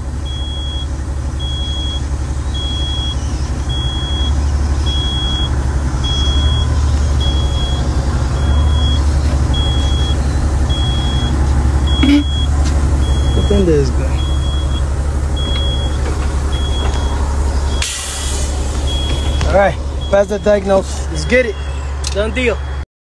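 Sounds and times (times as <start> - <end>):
diesel truck engine running: 0.0 - 22.8
high-pitched warning beeps: 0.2 - 22.8.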